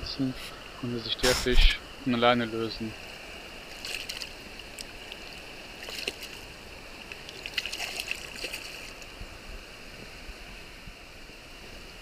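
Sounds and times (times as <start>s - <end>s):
river water rushing over rocks: 0.1s - 12.0s.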